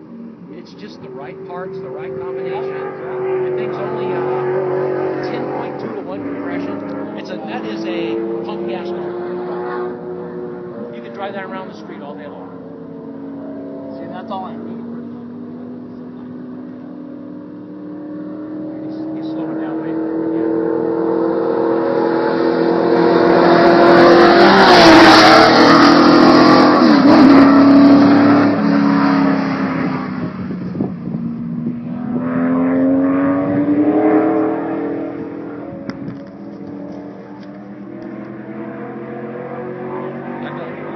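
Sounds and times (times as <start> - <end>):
car engine revving loud: 0.0 - 40.9.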